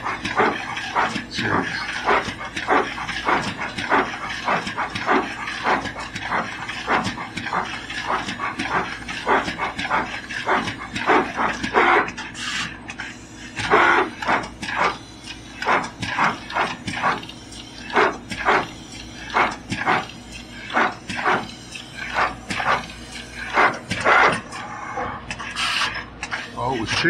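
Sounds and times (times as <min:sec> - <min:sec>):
servos whirring and whining: 0:00.0 - 0:27.0
steady machine hum: 0:00.0 - 0:27.0.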